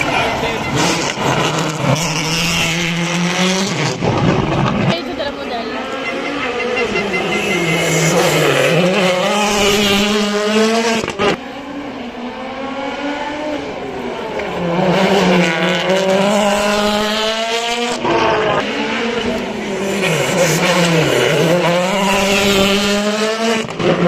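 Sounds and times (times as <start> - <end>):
rally car engine driven hard: 0.0 - 24.0.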